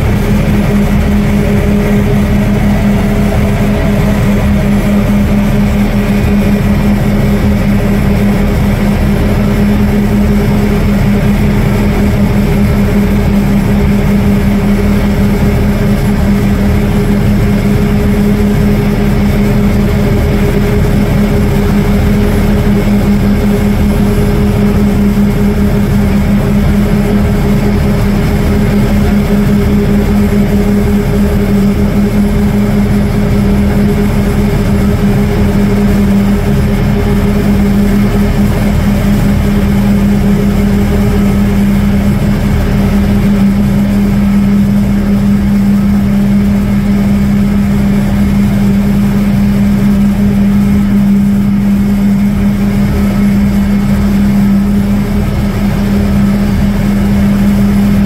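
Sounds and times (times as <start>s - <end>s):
heavy engines droning: 0.0s - 58.0s.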